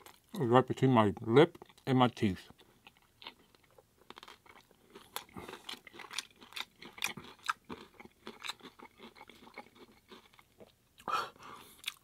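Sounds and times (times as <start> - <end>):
person chewing crunchy taco shell: 0.0 - 0.4, 1.5 - 1.9, 2.5 - 12.0.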